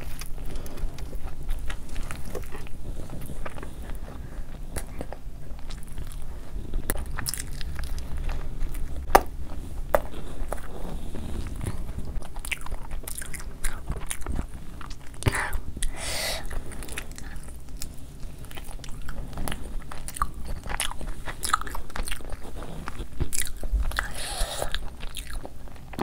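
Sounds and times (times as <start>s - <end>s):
chewing food: 0.0s - 26.0s.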